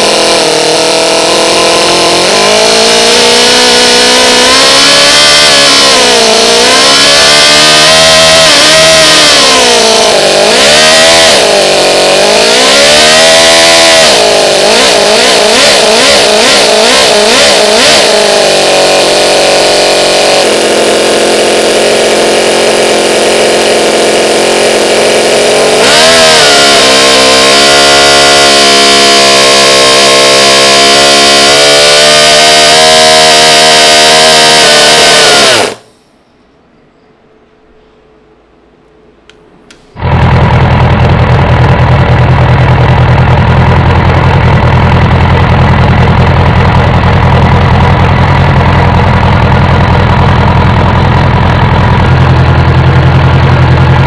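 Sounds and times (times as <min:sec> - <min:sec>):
model engine revving: 0:00.0 - 0:36.0, 0:39.9 - 0:54.0.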